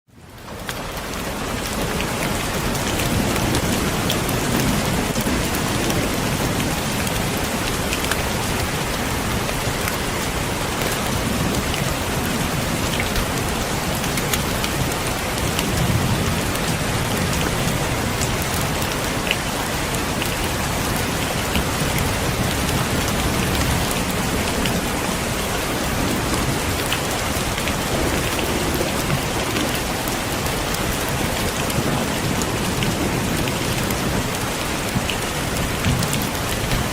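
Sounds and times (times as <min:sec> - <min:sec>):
heavy rain on a window: 0:00.1 - 0:36.9.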